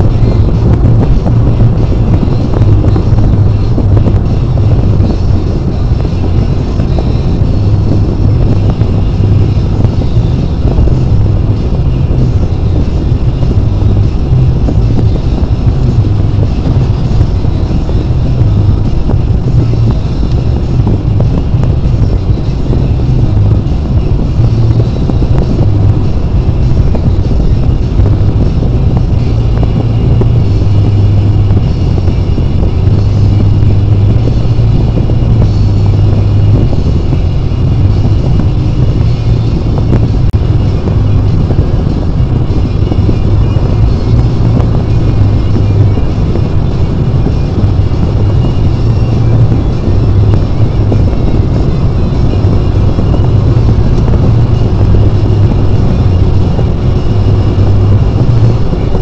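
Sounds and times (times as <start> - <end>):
car cabin road and engine drone: 0.0 - 59.0.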